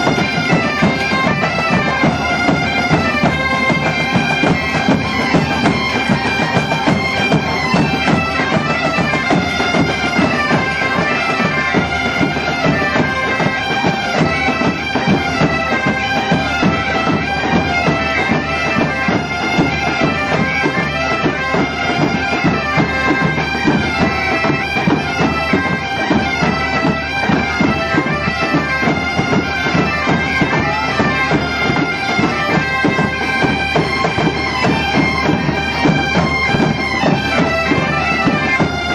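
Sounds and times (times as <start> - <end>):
bagpipe band playing: 0.0 - 38.9
snare drum: 0.0 - 38.9.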